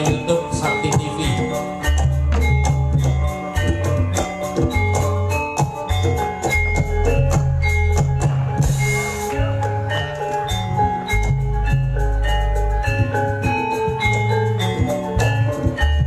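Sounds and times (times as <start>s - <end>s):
music with drums and bass: 0.0s - 16.0s.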